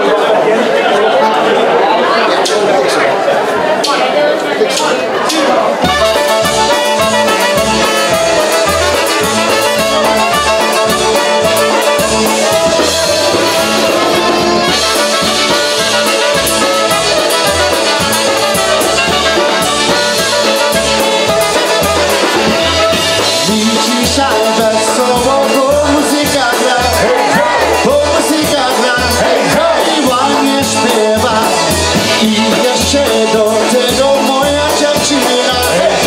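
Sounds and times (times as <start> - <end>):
polka band playing: 0.0 - 36.0
steady drum beat: 4.7 - 36.0.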